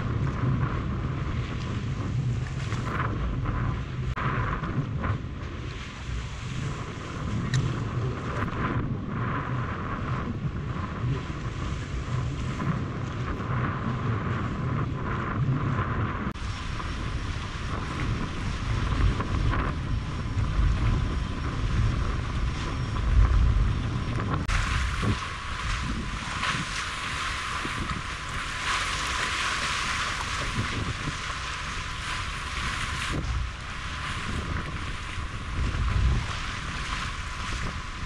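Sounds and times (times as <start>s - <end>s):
water lapping against boat hull: 0.0s - 38.0s
wind buffeting microphone: 0.0s - 38.0s.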